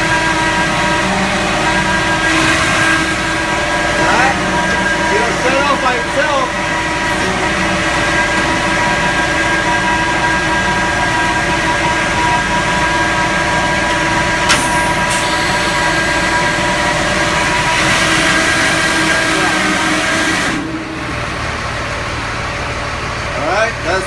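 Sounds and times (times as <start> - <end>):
fuel pump whine: 0.0 - 24.0
truck engine running: 0.0 - 24.0.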